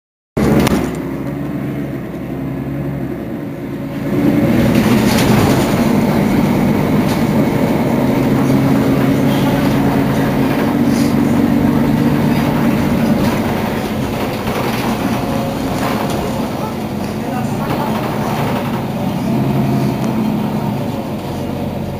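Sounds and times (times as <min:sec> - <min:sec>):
bus engine idling: 0:00.4 - 0:21.9.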